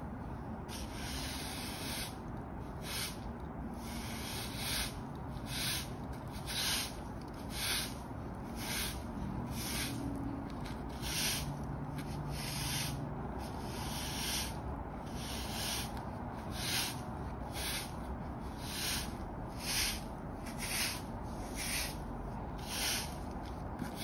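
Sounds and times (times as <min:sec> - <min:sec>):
broom sweeping on brick: 0:00.6 - 0:24.0.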